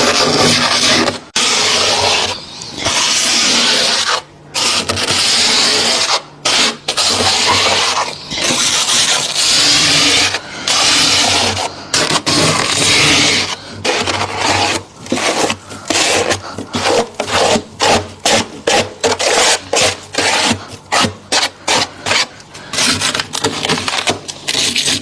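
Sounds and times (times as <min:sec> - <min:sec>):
scraping freezer frost: 0:00.0 - 0:25.0.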